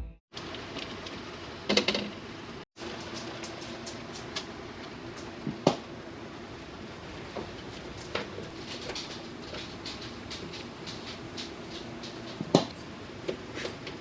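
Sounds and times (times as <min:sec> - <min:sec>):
room background noise: 0:00.4 - 0:14.0.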